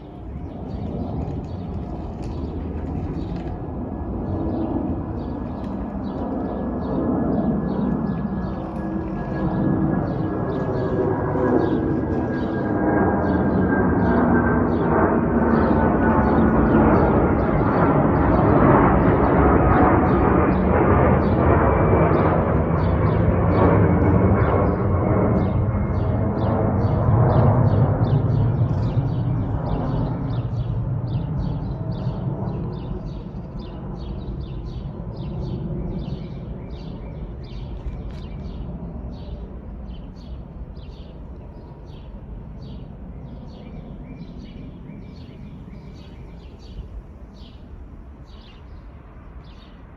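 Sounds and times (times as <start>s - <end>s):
jet engine roar: 0.0s - 49.9s.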